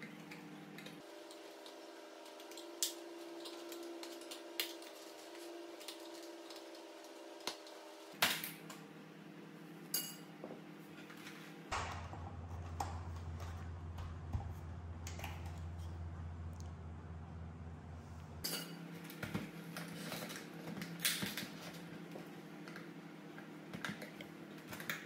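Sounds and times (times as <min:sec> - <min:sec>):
steady low hum: 0:00.0 - 0:24.6.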